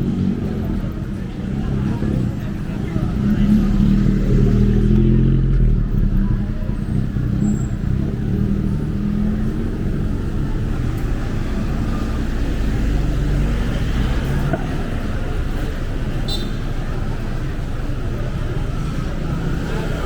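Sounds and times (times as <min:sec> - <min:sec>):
low traffic rumble: 0:00.0 - 0:20.0
vehicle engines running: 0:00.0 - 0:20.0.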